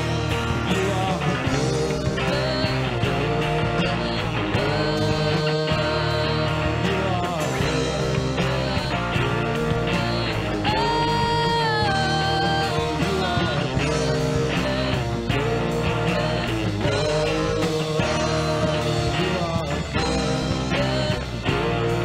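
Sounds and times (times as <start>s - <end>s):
worship band playing: 0.0s - 22.0s.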